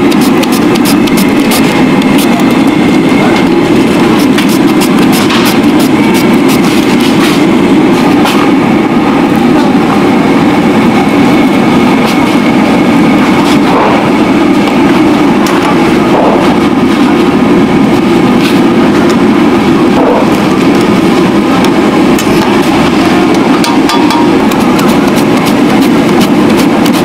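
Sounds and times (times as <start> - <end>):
gas burner roaring: 0.0 - 27.0.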